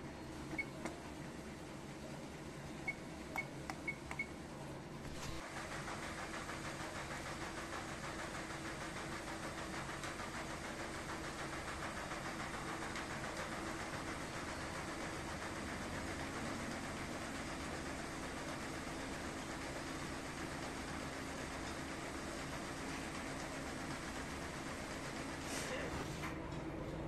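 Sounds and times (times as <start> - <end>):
washing machines running: 0.0 - 27.0.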